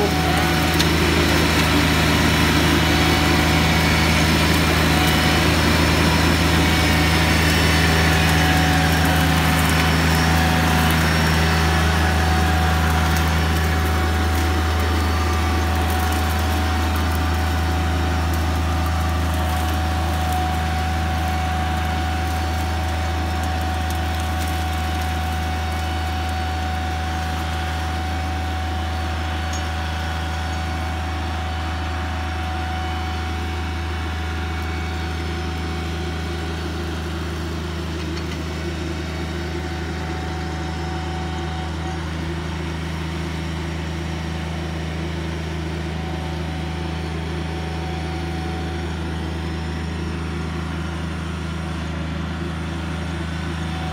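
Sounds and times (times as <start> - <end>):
mower engine running: 0.0 - 53.9.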